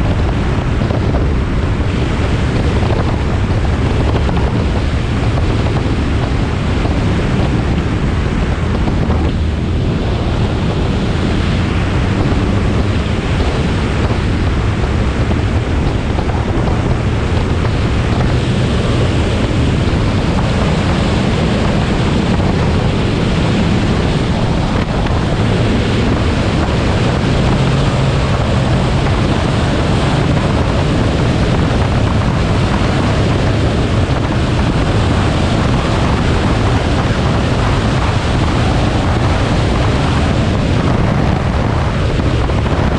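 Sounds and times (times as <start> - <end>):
car engine and road noise: 0.0 - 42.9
wind buffeting microphone: 0.0 - 42.9.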